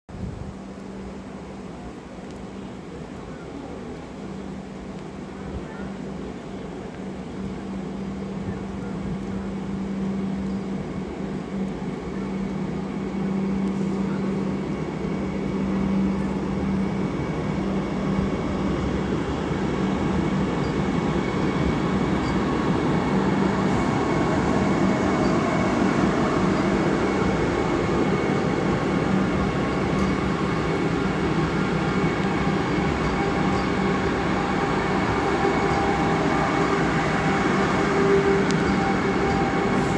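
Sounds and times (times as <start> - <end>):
electric train running: 7.4 - 39.9.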